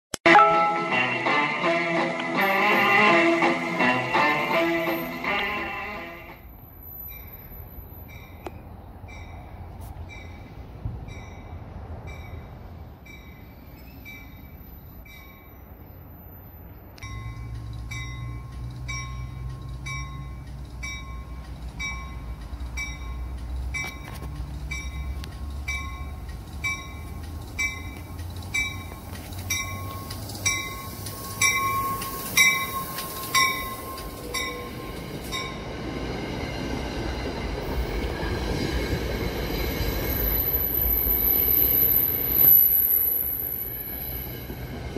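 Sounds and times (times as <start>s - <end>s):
train bell ringing: 0.3s - 1.4s, 2.4s - 16.2s, 16.8s - 44.6s
train wheels on rails: 1.3s - 44.9s.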